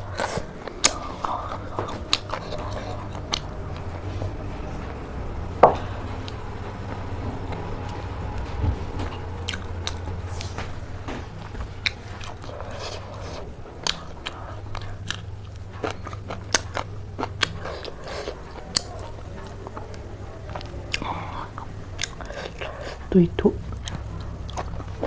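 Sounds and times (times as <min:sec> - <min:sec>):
person chewing and crunching: 0:00.0 - 0:04.5, 0:05.7 - 0:25.0
low steady hum: 0:00.0 - 0:25.0.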